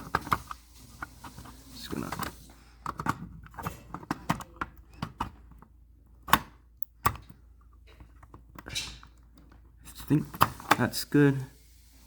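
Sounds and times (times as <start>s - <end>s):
plastic clicks and knocks: 0.0s - 10.9s.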